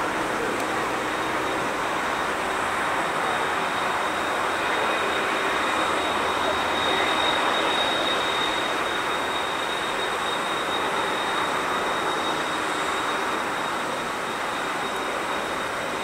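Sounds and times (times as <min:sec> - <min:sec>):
high engine whine: 0:00.0 - 0:16.0
jet engines idling roar: 0:00.0 - 0:16.0.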